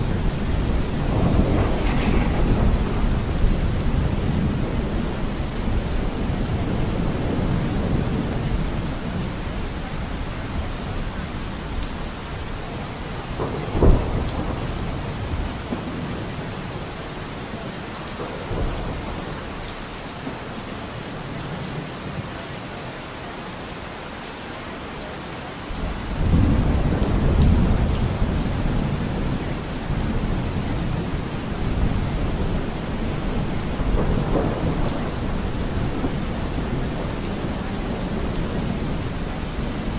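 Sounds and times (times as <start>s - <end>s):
rolling thunder: 0.0s - 20.6s, 25.7s - 39.9s
steady rain: 0.0s - 39.9s.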